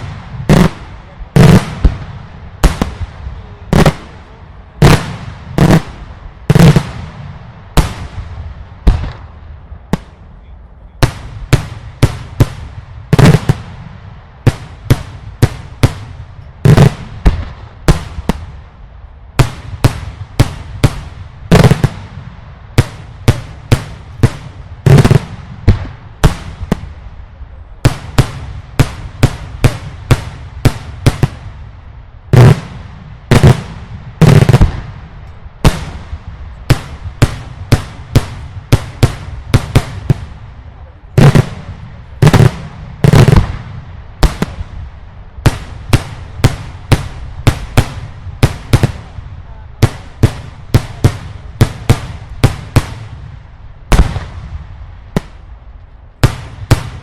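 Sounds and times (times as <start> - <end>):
fireworks bangs with echo: 0.0 - 10.3, 11.0 - 18.7, 19.3 - 55.6, 56.2 - 57.0.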